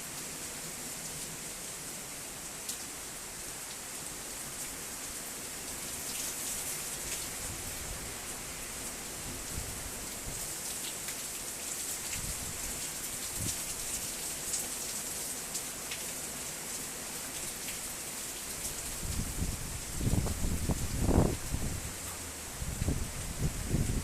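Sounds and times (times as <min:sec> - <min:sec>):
heavy rain and sleet hiss: 0:00.0 - 0:24.0.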